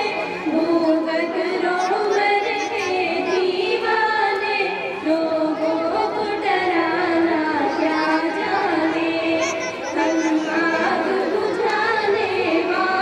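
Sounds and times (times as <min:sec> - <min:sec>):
girls singing unaccompanied: 0:00.0 - 0:13.0.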